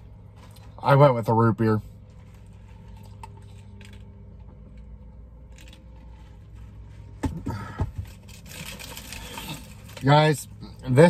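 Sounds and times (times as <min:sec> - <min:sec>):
low hum of car cabin: 0:00.0 - 0:11.0.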